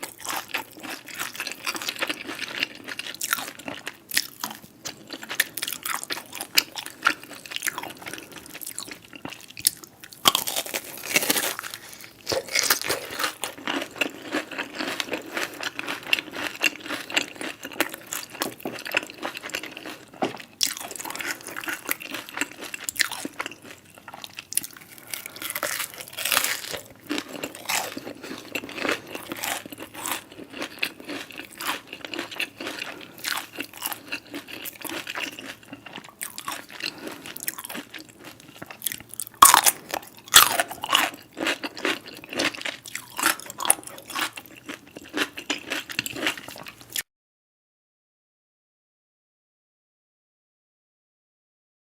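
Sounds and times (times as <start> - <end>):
person chewing crunchy food: 0.0 - 47.0.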